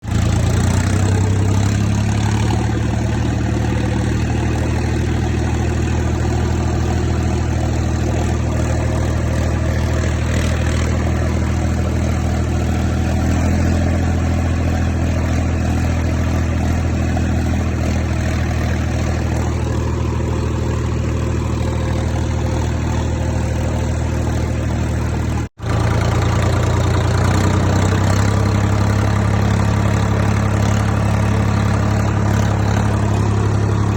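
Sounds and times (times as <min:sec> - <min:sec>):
tractor diesel engine droning: 0:00.0 - 0:33.9.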